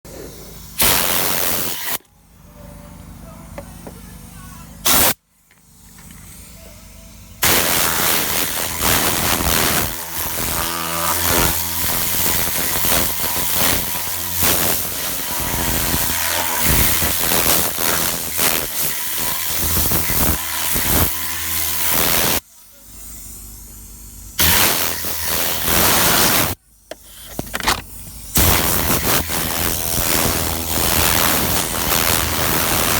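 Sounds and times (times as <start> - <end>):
compressed air blasts: 0.1 - 2.0, 4.8 - 6.6, 7.2 - 32.9.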